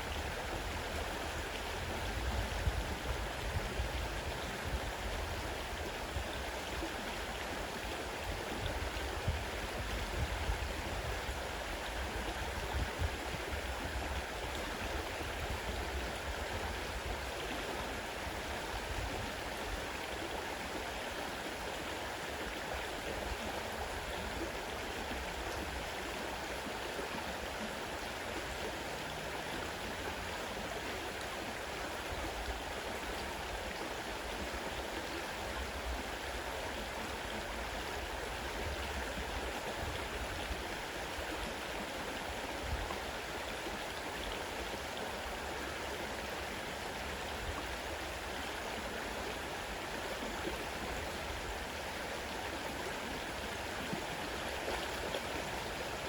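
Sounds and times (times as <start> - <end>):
fast river rushing: 0.0 - 56.0.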